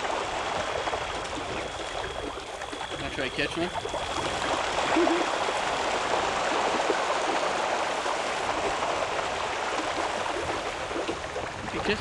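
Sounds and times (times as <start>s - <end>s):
birds splashing across water: 0.0s - 12.0s.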